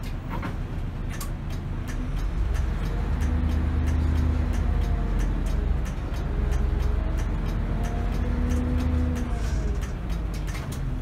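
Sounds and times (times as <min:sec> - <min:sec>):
bus engine drone: 0:00.0 - 0:11.0
interior rattles and clicks: 0:00.0 - 0:11.0.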